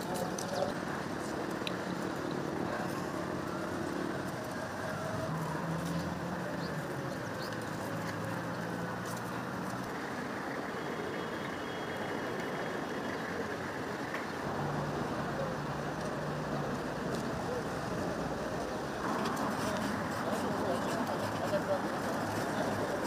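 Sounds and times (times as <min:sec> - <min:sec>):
outdoor noise: 0:00.0 - 0:23.0
vehicle engines humming: 0:00.0 - 0:23.0.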